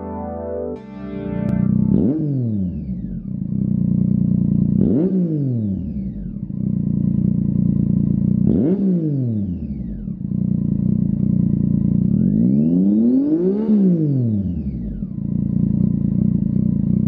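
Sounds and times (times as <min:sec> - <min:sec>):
motorcycle engine idling and revving: 0:01.6 - 0:17.0.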